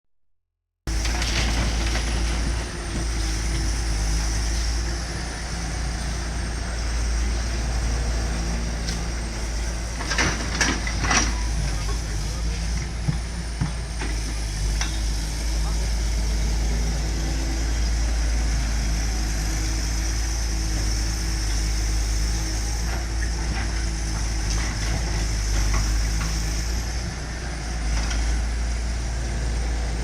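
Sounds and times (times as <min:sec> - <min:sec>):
large engine running: 0:00.9 - 0:30.0.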